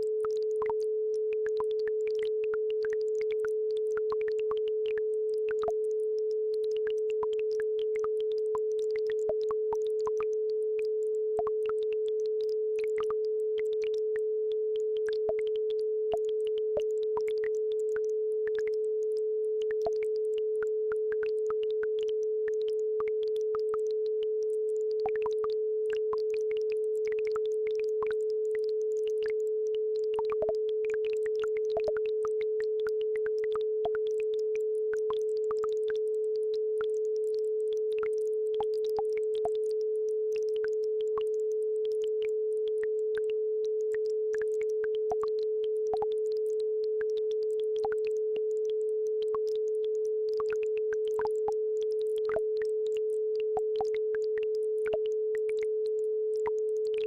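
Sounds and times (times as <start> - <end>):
steady sine tone: 0.0 - 57.0.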